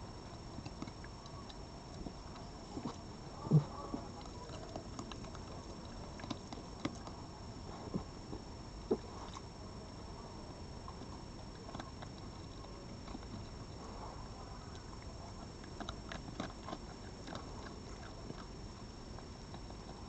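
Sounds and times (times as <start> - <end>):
animal chewing food: 0.0 - 10.0, 10.7 - 20.0.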